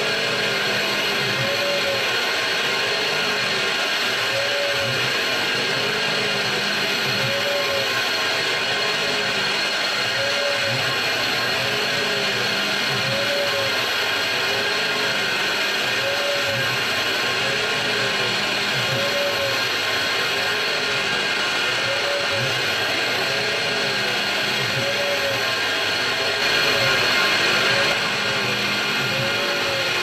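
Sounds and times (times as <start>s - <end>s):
mill spindle and cutting noise: 0.0s - 30.0s
stepper axes whining: 0.0s - 30.0s.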